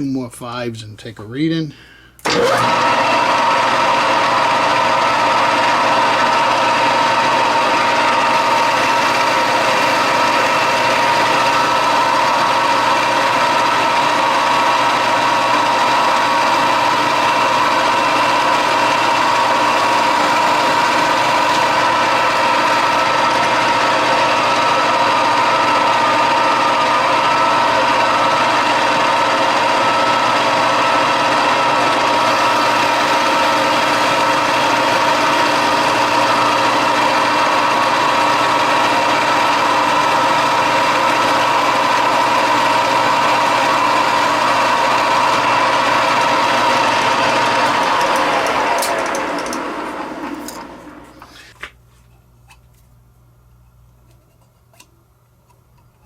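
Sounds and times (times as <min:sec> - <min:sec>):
metal lathe running: 0:02.2 - 0:51.3.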